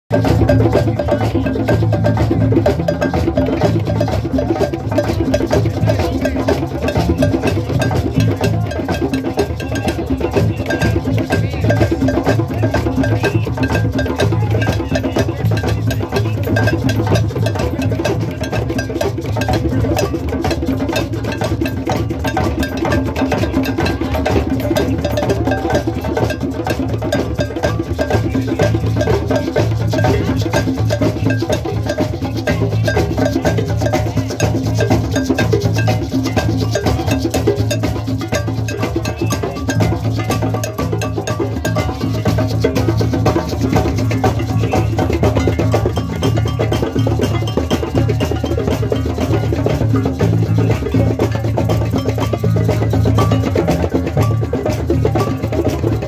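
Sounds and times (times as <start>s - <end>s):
live percussion music: 0.0s - 56.0s.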